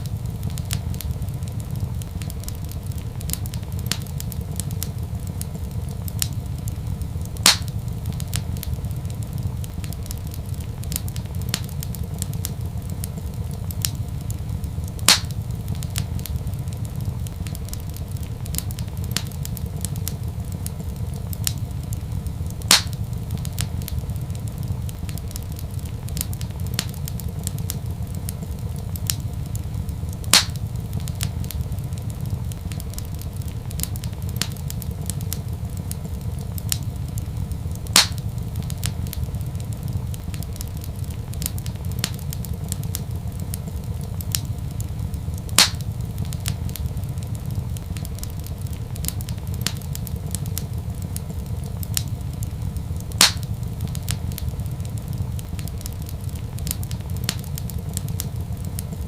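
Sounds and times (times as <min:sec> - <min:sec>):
sharp fire pops: 0:00.0 - 0:59.0
wood fire crackling: 0:00.0 - 0:59.0.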